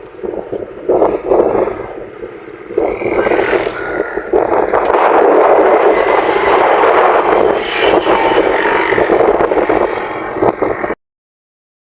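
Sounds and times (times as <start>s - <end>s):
loud vehicle noise: 0.0s - 11.0s.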